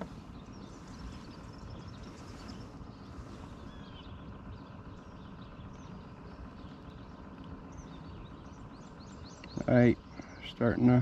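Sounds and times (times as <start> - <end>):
low outdoor rumble: 0.0 - 11.0
songbirds chirping: 0.0 - 11.0.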